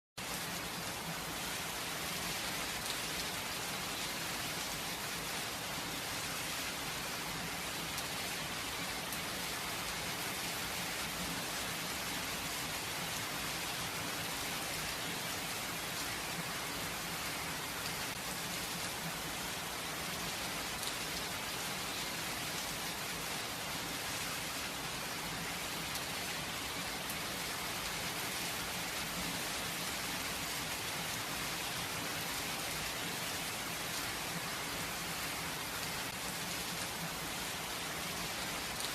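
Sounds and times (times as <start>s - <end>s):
gentle rain falling: 0.2s - 38.9s.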